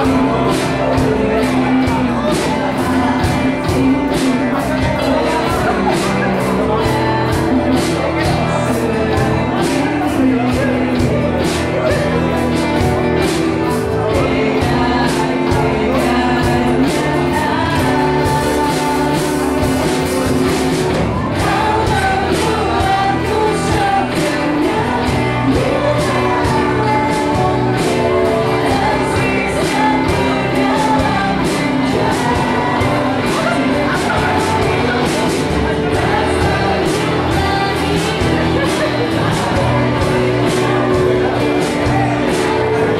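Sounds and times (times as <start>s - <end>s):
bass: 0.0s - 42.9s
drums keeping a steady beat: 0.0s - 42.9s
electric guitars: 0.0s - 42.9s
keyboard: 0.0s - 42.9s
woman singing: 0.0s - 42.9s.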